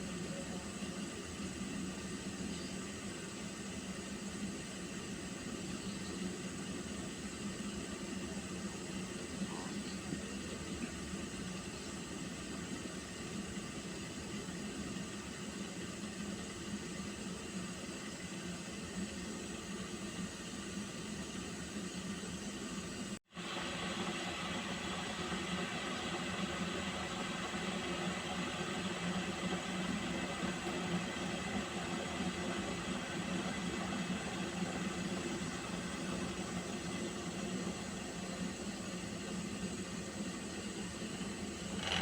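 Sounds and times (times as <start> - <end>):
pot of water hissing on stove: 0.0 - 42.0.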